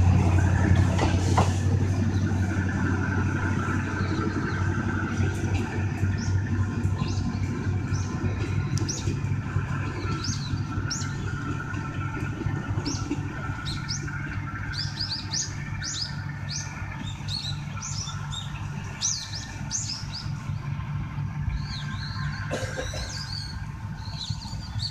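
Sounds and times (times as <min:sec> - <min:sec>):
birds chirping: 0:00.0 - 0:24.9
diesel railcar drone: 0:00.0 - 0:24.9.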